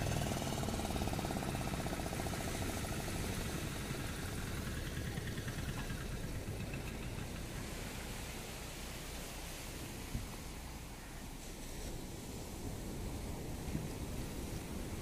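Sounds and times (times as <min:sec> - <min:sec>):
breaking surf: 0:00.0 - 0:15.0.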